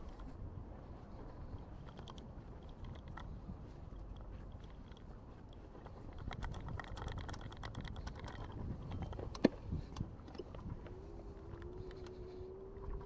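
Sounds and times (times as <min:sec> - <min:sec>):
low street rumble: 0:00.0 - 0:13.0
scattered small clicks: 0:01.5 - 0:13.0.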